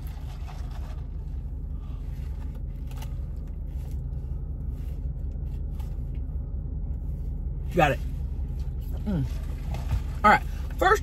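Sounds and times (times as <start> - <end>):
vehicle engine idling hum: 0.0 - 11.0.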